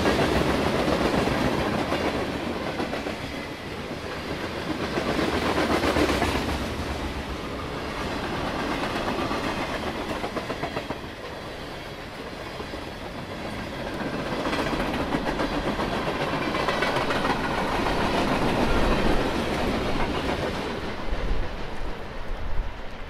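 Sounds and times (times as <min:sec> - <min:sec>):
train rumble: 0:00.0 - 0:23.0
train wheels clacking on rails: 0:00.0 - 0:23.0.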